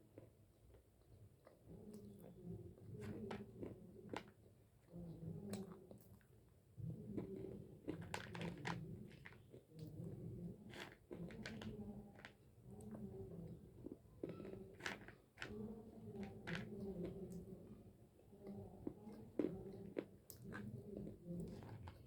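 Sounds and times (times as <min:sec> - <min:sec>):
soft low chewing: 0:00.0 - 0:22.0.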